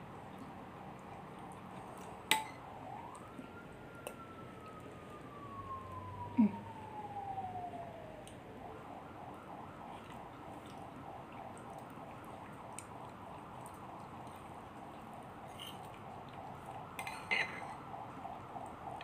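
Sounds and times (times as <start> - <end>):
distant siren: 0.0 - 19.0.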